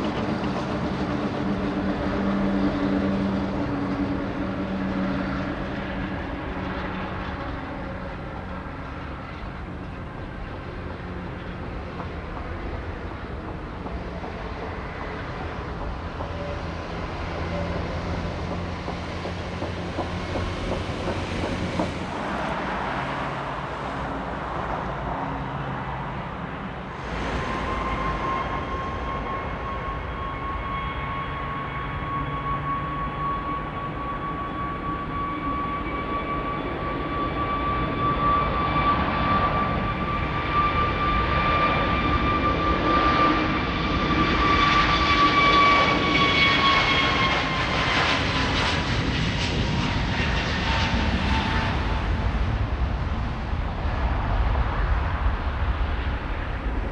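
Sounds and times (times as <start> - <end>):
jet engine high whine: 0.0 - 56.9
jet engines rumbling: 0.0 - 56.9.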